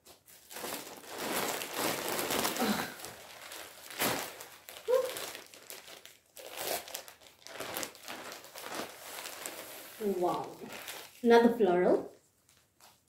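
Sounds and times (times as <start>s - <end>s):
plastic bag crinkling and rustling: 0.0s - 13.0s.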